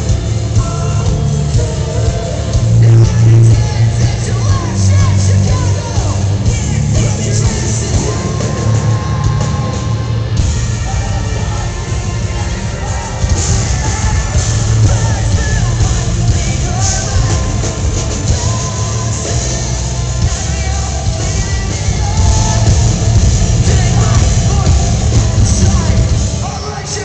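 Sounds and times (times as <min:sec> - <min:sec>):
live rock band playing loud: 0:00.0 - 0:27.0
person singing: 0:00.5 - 0:27.0.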